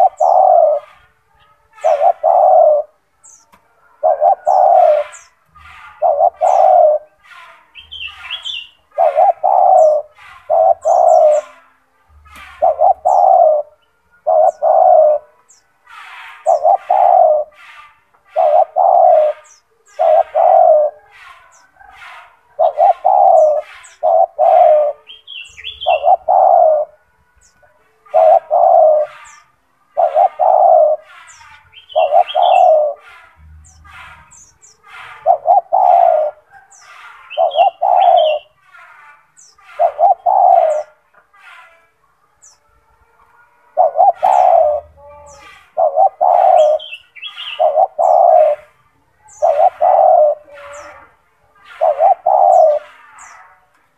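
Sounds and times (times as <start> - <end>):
dove cooing: 0.0 - 41.3, 43.3 - 53.8.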